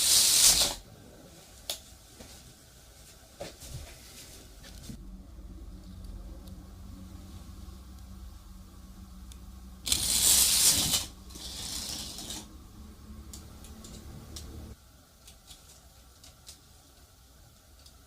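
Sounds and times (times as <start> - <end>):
low steady hum: 0.8 - 18.0.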